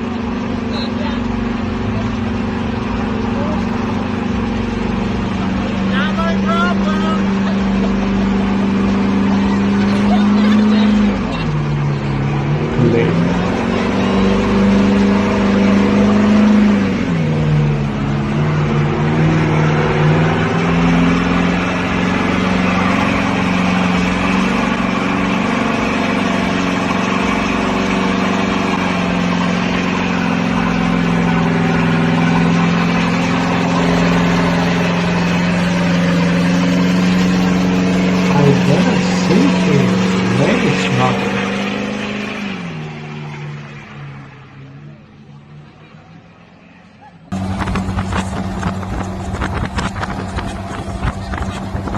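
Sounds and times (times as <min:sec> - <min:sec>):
truck engine droning: 0:00.0 - 0:51.9.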